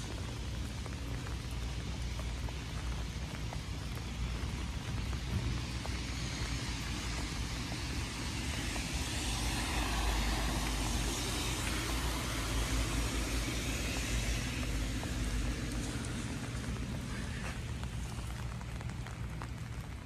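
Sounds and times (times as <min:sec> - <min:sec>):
car tyres hissing on wet road: 0:00.0 - 0:20.0.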